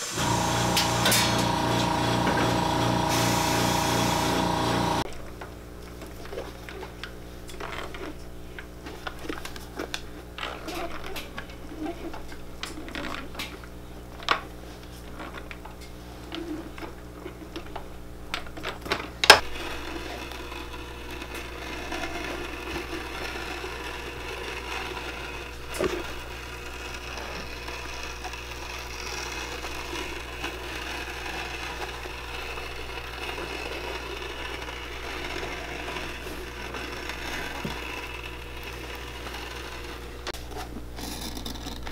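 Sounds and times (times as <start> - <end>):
shop background hum: 0.0 - 41.9.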